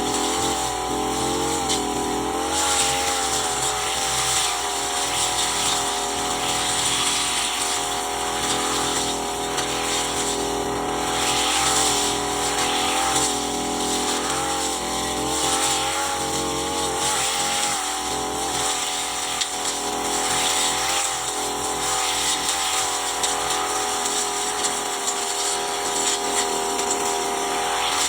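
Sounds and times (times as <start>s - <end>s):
brush cutter engine running: 0.0s - 28.0s.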